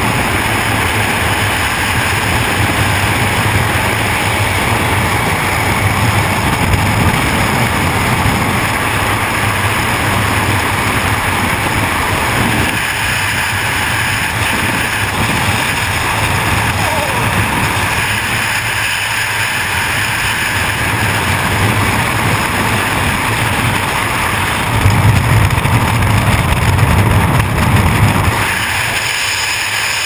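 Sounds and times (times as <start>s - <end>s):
wind roaring over microphone: 0.0s - 30.0s.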